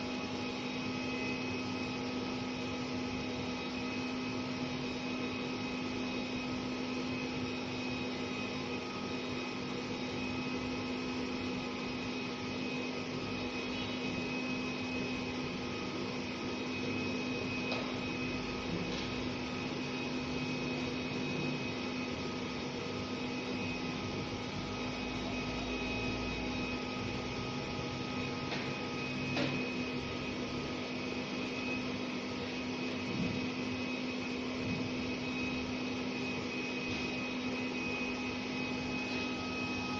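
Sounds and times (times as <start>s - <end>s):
electrical hum: 0.0s - 39.9s
fans and hot-air blower whirring: 0.0s - 39.9s.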